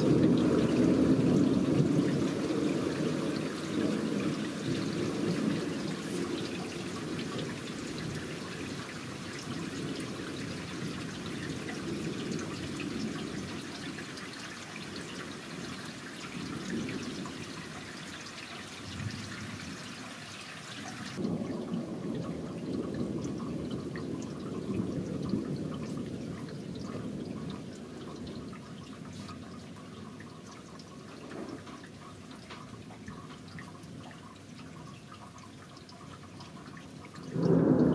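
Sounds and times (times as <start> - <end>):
rain pattering: 0.0 - 37.9.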